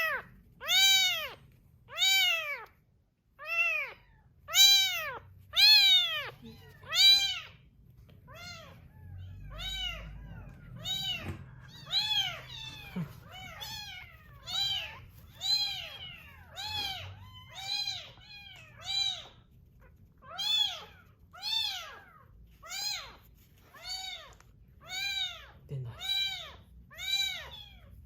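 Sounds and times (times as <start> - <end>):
kittens mewing: 0.0 - 2.8, 3.4 - 28.0.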